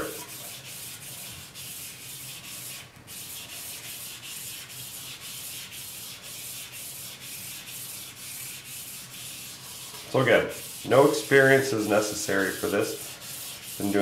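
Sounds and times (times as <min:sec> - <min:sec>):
charcoal scrubbing on paper: 0:00.0 - 0:14.0.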